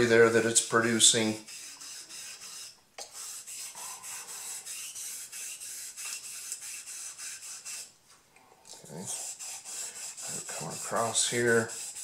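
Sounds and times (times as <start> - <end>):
razor scraping on wet whetstone: 0.2 - 7.9, 9.0 - 12.0.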